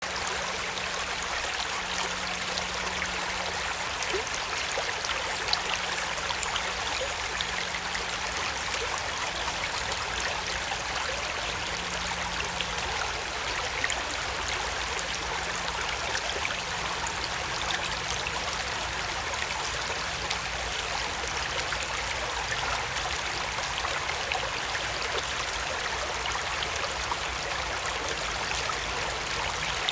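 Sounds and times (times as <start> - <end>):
creek babbling over stones: 0.0 - 29.9.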